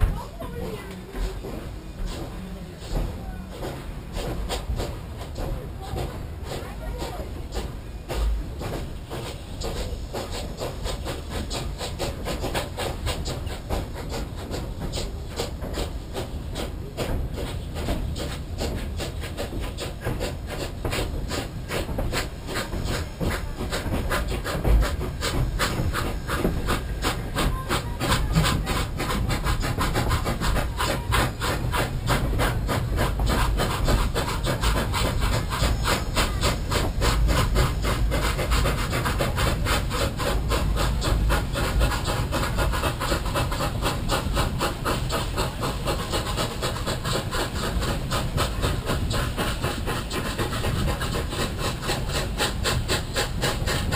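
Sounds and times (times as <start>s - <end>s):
steam locomotive chuffing: 0.0s - 53.9s.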